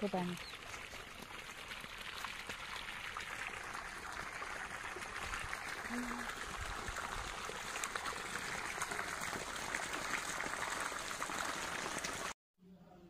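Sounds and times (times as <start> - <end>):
water gushing from pipe: 0.0 - 12.4.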